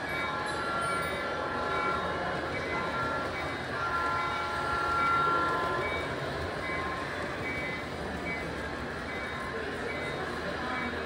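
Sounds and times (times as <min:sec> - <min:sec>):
model train mechanical hum: 0:00.0 - 0:11.0.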